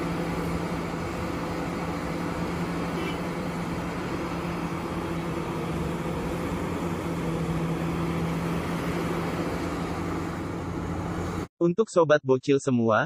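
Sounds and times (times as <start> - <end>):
excavator diesel engine droning: 0.0 - 11.5.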